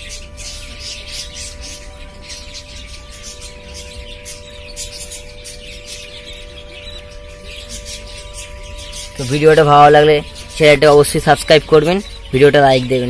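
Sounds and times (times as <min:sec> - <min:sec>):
budgerigars chirping: 0:00.0 - 0:13.0.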